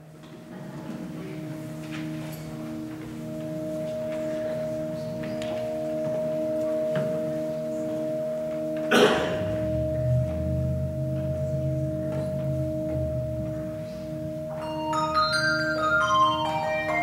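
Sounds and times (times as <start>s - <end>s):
low bass bells: 1.2s - 17.0s
handbell choir ringing chords: 1.4s - 17.0s
high bell notes run: 1.8s - 17.0s.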